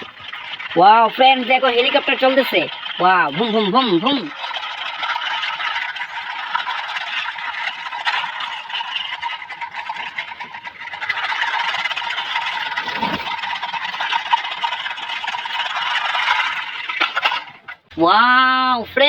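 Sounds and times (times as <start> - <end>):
toy helicopter motor whirring: 0.0 - 17.8.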